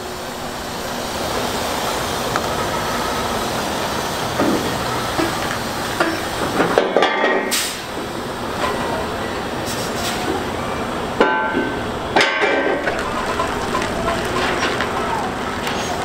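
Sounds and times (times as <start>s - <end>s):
diesel truck running: 0.0s - 16.0s.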